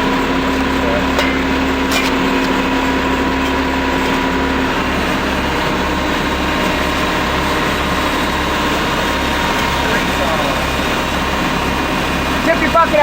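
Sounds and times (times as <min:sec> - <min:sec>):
steady low tone: 0:00.0 - 0:11.4
digging machine engine running: 0:00.0 - 0:13.0.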